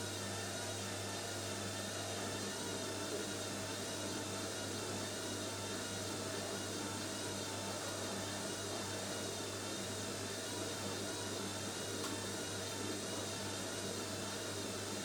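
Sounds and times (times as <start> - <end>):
washing machine drain pump humming: 0.0 - 15.0.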